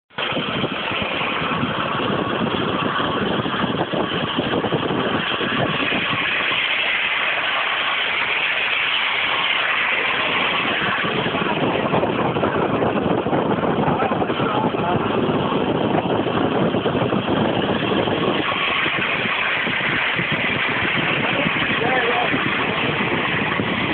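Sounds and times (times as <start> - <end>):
car road and wind noise: 0.1 - 23.9.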